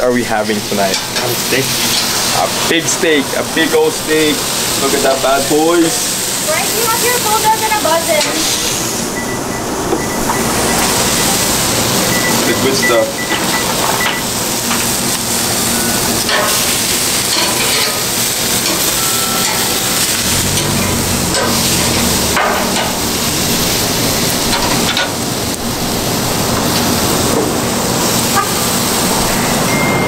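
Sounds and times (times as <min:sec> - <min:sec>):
steaks sizzling on grill: 0:00.1 - 0:29.8.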